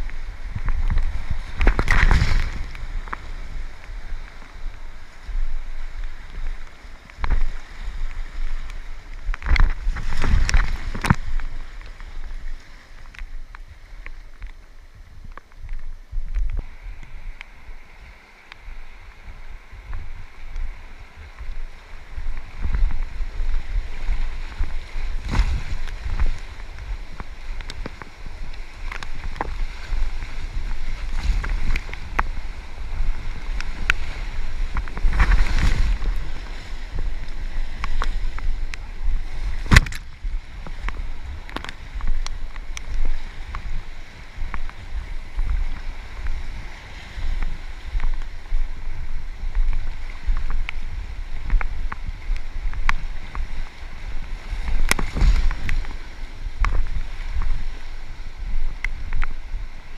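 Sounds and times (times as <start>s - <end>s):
river water rushing and splashing: 0.0s - 59.9s
wind buffeting microphone: 0.0s - 59.9s.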